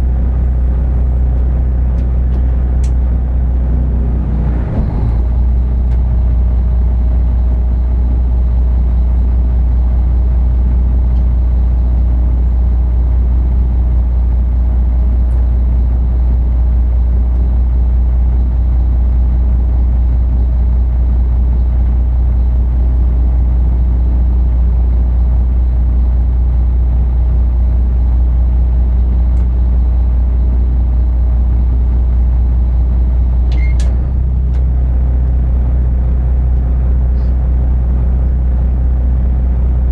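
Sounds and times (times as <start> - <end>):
ship engine droning: 0.0 - 39.9.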